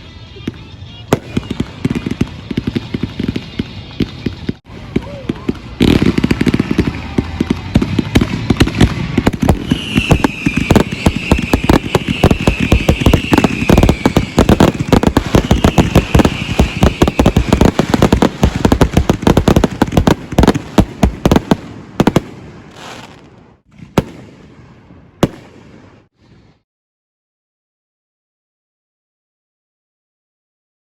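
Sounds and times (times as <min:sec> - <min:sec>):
fireworks bangs and crackles: 0:00.0 - 0:26.1.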